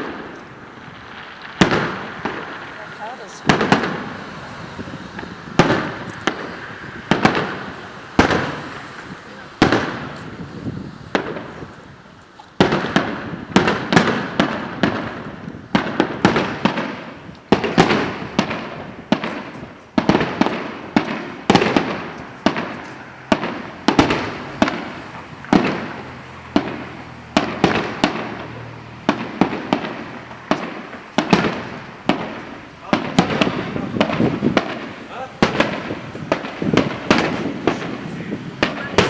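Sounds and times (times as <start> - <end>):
firework shells bursting: 0.0 - 39.0.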